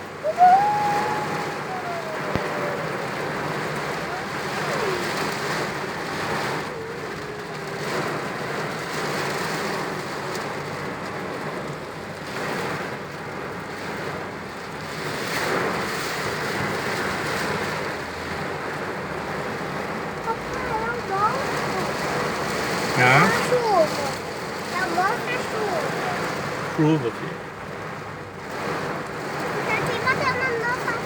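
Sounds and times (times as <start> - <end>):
rain hitting a car: 0.0 - 31.0.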